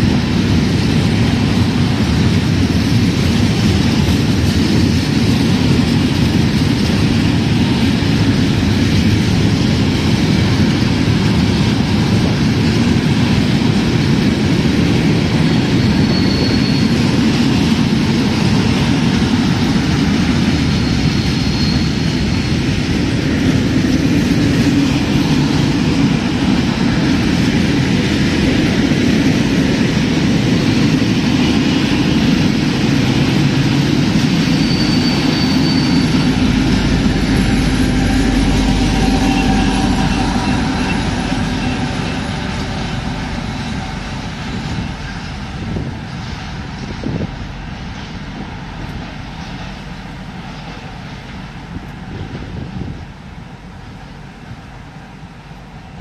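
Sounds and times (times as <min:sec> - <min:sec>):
passing train rumble: 0:00.0 - 0:56.0.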